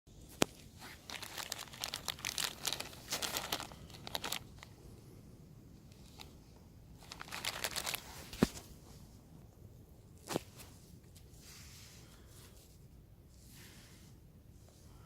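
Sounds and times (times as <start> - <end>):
rustling and crinkling: 0.2 - 4.9, 5.8 - 15.0.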